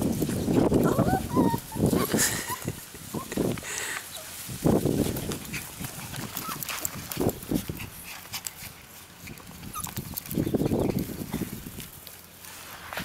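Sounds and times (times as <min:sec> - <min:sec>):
dogs play vocalizing: 0:00.2 - 0:12.1.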